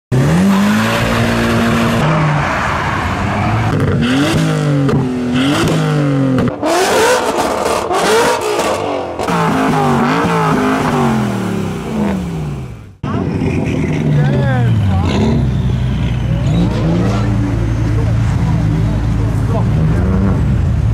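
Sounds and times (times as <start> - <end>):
car engines revving: 0.1 - 20.9.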